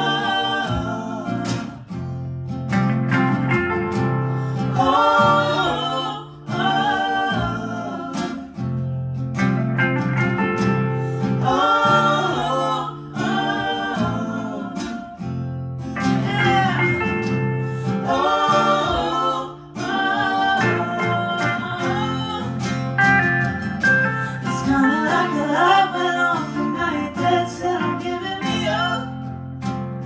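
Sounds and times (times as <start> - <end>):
person singing: 0.0 - 1.8, 3.8 - 8.6, 9.8 - 15.2, 16.0 - 29.3
acoustic guitar: 0.0 - 30.0.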